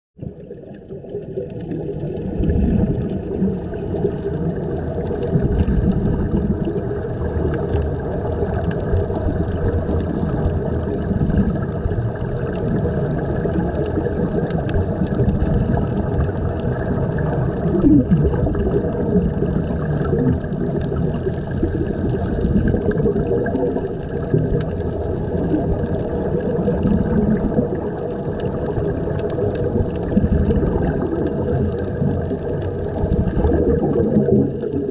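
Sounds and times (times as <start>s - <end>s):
air bubbling underwater: 0.2s - 34.9s
motor drone through water: 0.7s - 34.9s.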